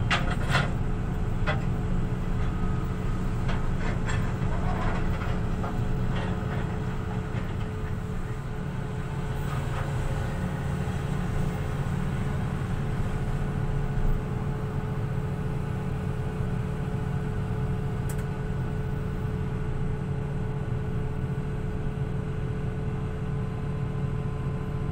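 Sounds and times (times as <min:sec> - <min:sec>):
diesel engine humming: 0:00.0 - 0:22.5.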